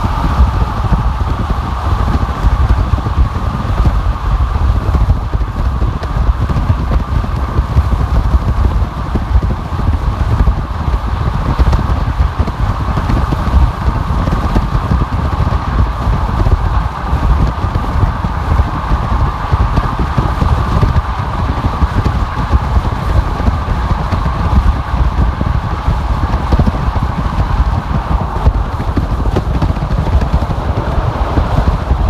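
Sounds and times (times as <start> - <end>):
road and tyre noise: 0.0 - 32.0
wind buffeting: 0.0 - 32.0.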